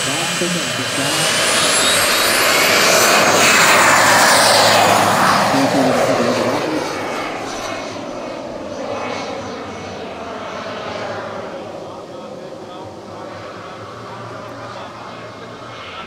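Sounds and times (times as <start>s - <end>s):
model turboprop engine whine: 0.0s - 16.0s
propeller rushing: 0.0s - 16.0s.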